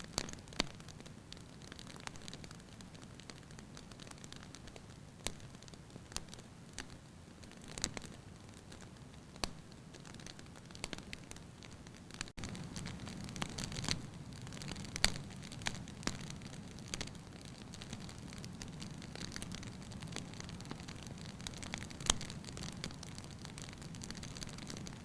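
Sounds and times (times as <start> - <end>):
fireplace crackling and popping: 0.0 - 25.0
low rumble and hiss: 0.0 - 25.0.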